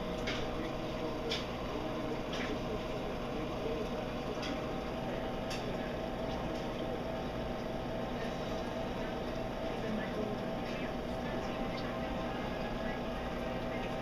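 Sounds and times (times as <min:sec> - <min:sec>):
steady hum: 0:00.0 - 0:14.0
water bubbling and gurgling: 0:00.0 - 0:14.0.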